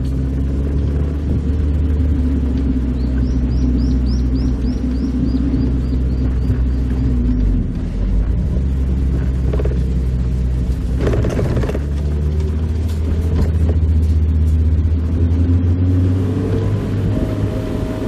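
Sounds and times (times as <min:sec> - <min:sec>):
car engine running: 0:00.0 - 0:18.0
road and wind noise: 0:00.0 - 0:18.0.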